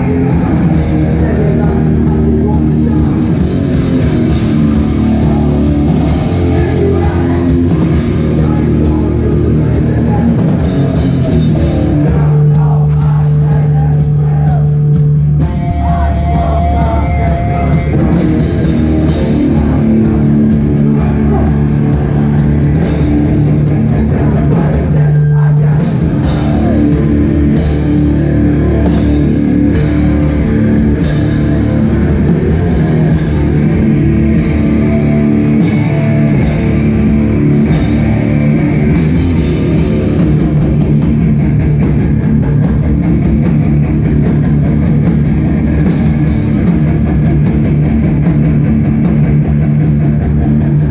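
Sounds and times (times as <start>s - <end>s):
hardcore band playing live: 0.0s - 50.9s.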